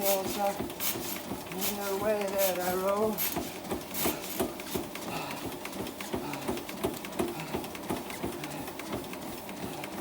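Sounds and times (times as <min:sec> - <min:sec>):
footfalls on a treadmill: 0:00.0 - 0:10.0.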